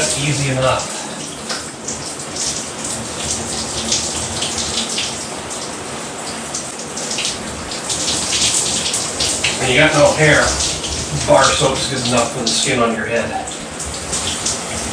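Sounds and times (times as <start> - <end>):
shower water pouring and splashing: 0.0 - 14.9.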